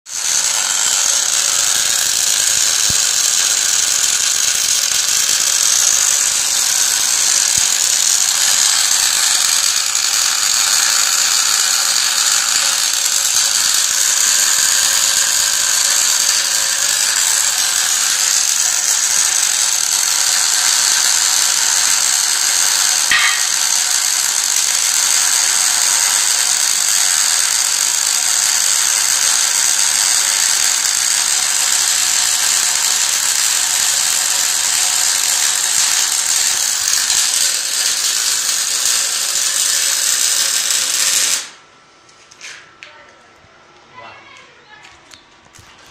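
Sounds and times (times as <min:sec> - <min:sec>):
welding arc hissing crackle: 0:00.1 - 0:41.6.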